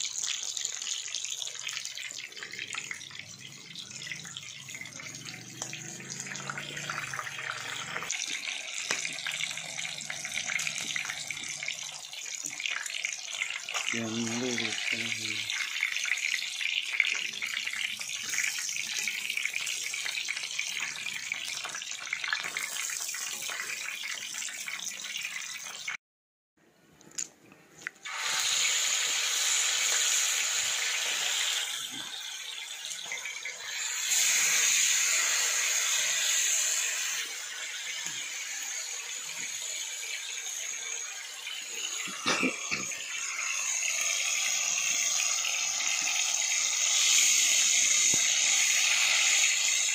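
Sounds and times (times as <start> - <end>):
fish deep-frying in hot oil: 0.0 - 26.0, 28.0 - 49.9.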